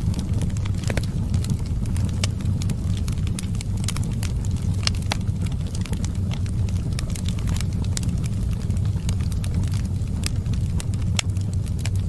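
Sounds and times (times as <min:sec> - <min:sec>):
fire crackling and popping: 0:00.0 - 0:12.0
low fire rumble: 0:00.0 - 0:12.0.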